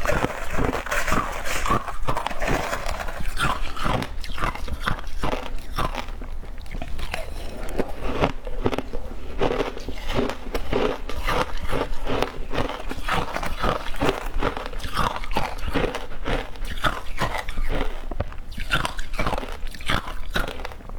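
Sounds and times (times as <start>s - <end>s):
person chewing crunchy ice: 0.0s - 20.9s.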